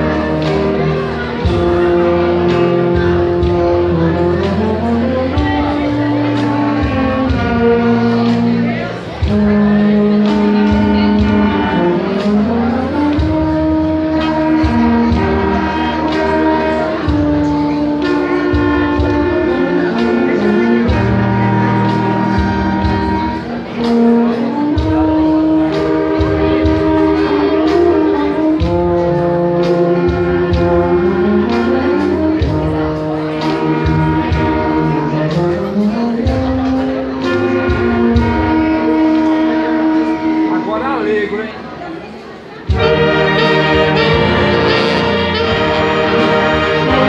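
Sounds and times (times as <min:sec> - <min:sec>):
instrumental ensemble music: 0:00.0 - 0:47.0
orchestra playing: 0:00.0 - 0:47.0.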